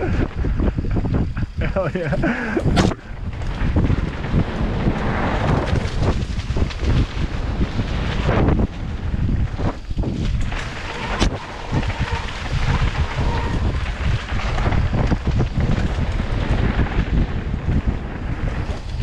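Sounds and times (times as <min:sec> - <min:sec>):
bike rattling over bumps: 0:00.0 - 0:19.0
tyres rolling over dirt: 0:00.0 - 0:19.0
wind buffeting microphone: 0:00.0 - 0:19.0.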